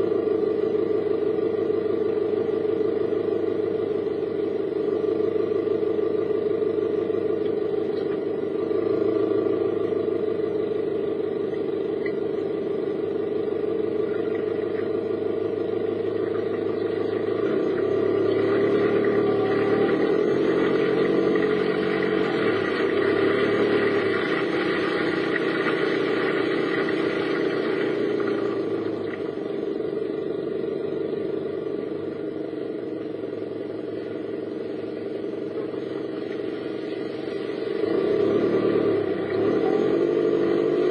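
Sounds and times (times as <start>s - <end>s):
car engine driving: 0.0s - 40.9s
road noise: 0.0s - 40.9s.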